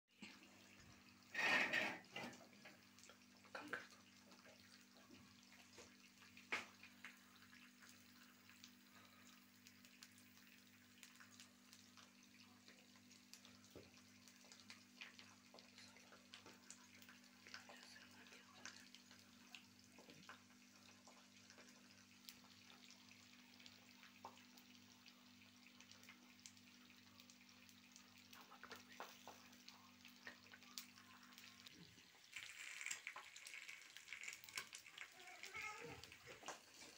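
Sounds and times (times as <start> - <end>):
egg sizzling in pan: 0.2 - 36.9.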